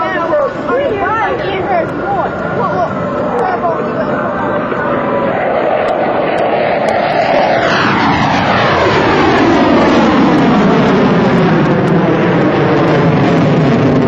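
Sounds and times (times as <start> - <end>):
jet engines roaring in flyby: 0.0 - 14.0.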